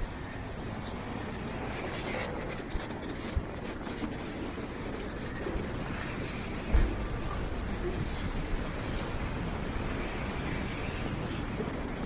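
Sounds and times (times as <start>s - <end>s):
city street noise: 0.0s - 12.0s
wind buffeting microphone: 0.0s - 12.0s.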